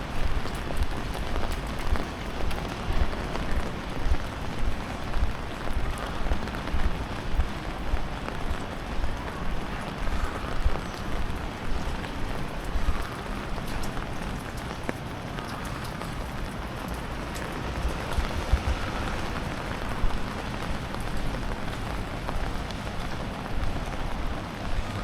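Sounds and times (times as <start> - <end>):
rain hissing on a street: 0.0 - 25.0.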